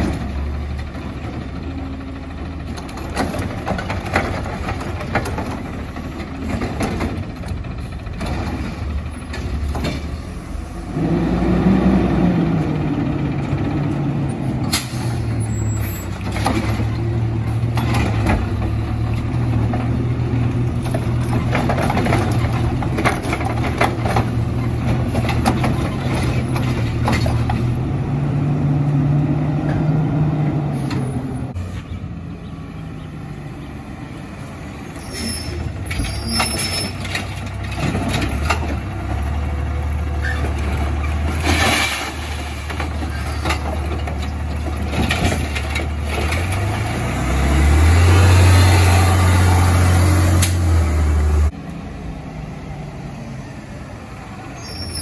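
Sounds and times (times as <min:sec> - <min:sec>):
garbage truck diesel engine: 0:00.0 - 0:55.0.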